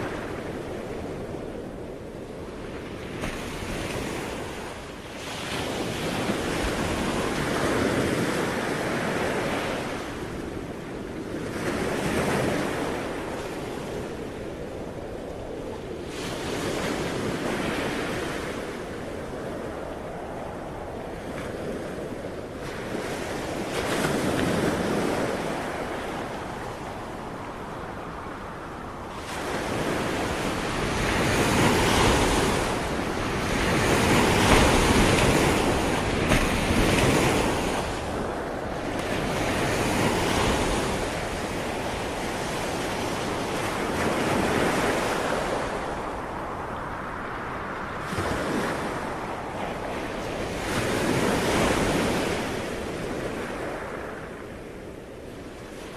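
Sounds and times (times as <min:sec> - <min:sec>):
ocean waves breaking on shore: 0:00.0 - 0:55.9
wind buffeting microphone: 0:00.0 - 0:55.9.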